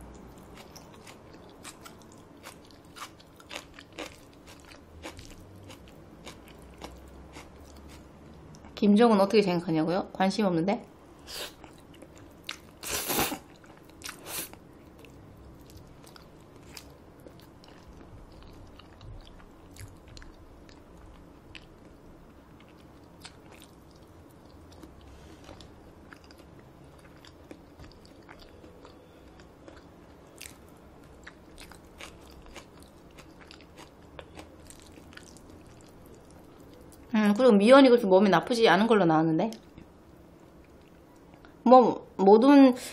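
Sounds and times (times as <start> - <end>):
soft chewing: 0.0 - 8.8, 11.4 - 37.1, 39.5 - 41.6.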